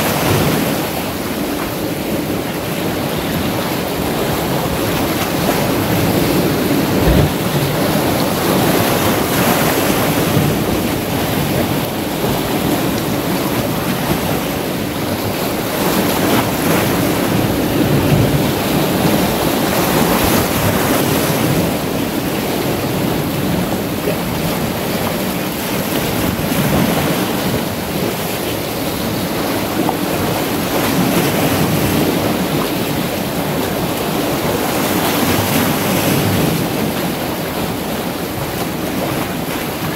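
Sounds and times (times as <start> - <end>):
waves breaking on boulders: 0.0 - 39.9
wind buffeting microphone: 2.0 - 34.6.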